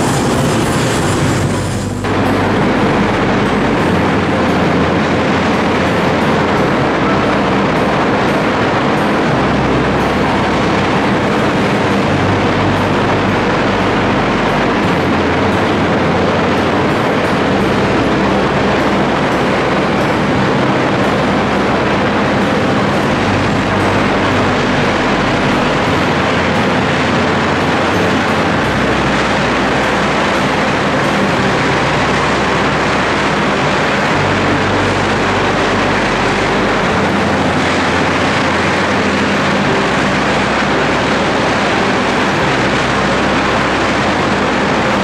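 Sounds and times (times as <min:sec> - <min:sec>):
electric arc furnace rumbling hiss: 0:00.0 - 0:45.0.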